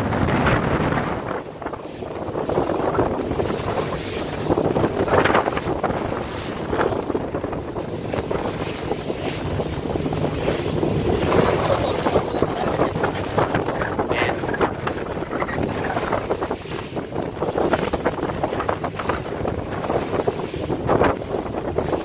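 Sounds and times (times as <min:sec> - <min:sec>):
faint boat engine drone: 0:00.0 - 0:22.0
water rushing past boat: 0:00.0 - 0:22.0
wind buffeting microphone: 0:00.0 - 0:22.0.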